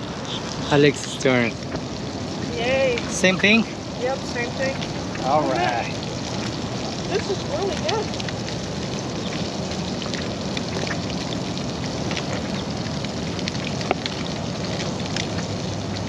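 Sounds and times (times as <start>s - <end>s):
fish frying with crackles: 0.0s - 16.0s.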